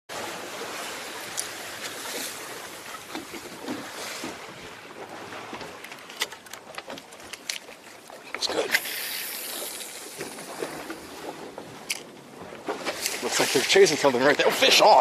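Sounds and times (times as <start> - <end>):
water rushing along hull: 0.1 - 15.0.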